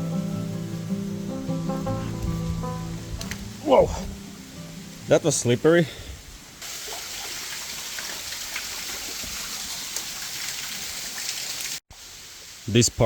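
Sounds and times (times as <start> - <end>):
falling water rushing: 0.4 - 13.0.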